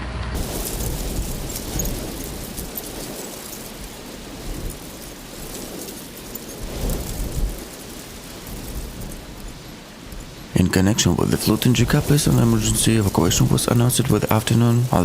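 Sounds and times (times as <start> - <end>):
wind buffeting microphone: 0.3 - 15.0
water rushing: 0.4 - 15.0.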